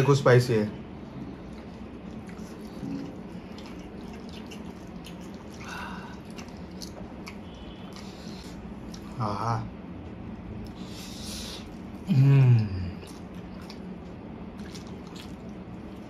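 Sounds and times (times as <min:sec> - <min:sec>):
slurping and chewing: 0:01.0 - 0:09.1, 0:10.6 - 0:16.0.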